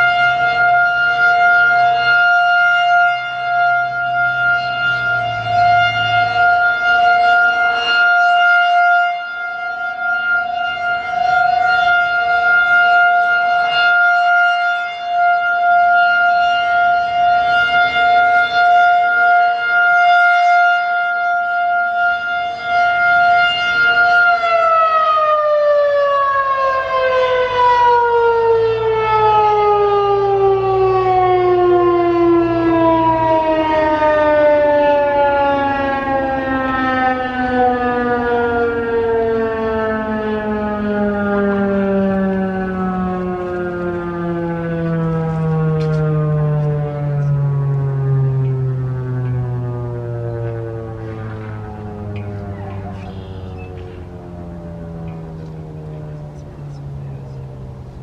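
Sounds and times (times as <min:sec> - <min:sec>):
rotating warning siren: 0:00.0 - 0:58.0.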